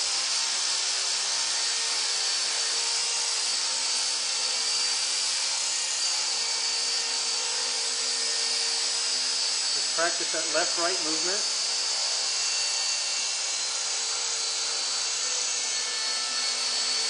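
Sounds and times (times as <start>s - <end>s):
rc helicopter rotor whine: 0.0s - 17.0s.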